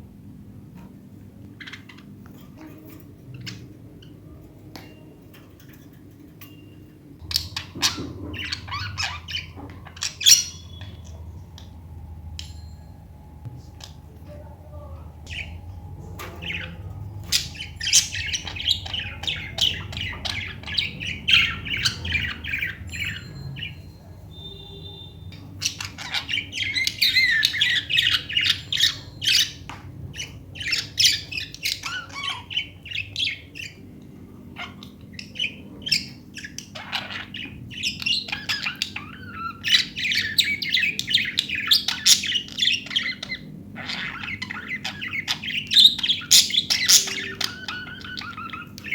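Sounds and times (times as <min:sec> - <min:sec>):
budgies chirping and squawking: 0:00.5 - 0:48.9.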